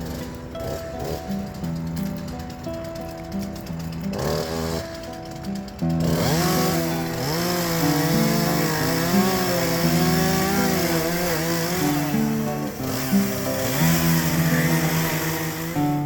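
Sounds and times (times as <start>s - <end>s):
background music: 0.0s - 16.0s
small petrol engine running: 0.0s - 16.0s.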